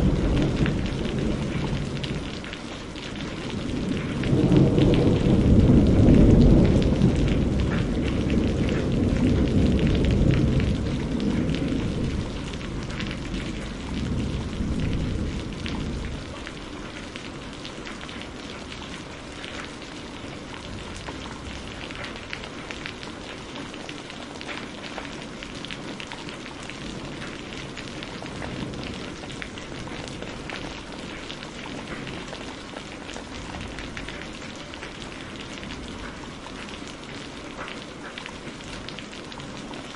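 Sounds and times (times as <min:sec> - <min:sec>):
thunder rumbling: 0:00.0 - 0:23.8, 0:24.5 - 0:37.4
steady rain pattering: 0:00.0 - 0:39.9.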